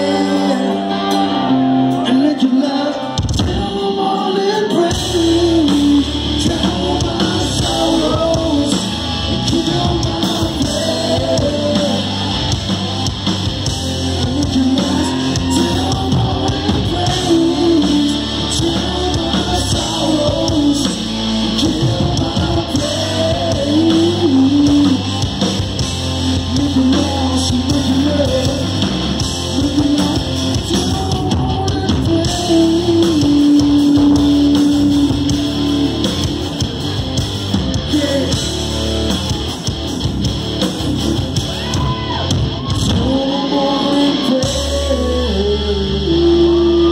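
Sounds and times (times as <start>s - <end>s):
singer holding long notes: 0.0s - 37.0s, 41.2s - 46.9s
live hard rock band: 0.0s - 46.9s.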